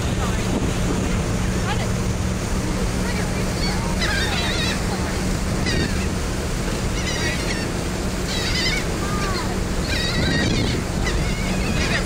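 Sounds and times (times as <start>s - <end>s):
churning wake: 0.0s - 12.0s
ferry engine hum: 0.0s - 12.0s
gulls calling: 0.0s - 12.0s.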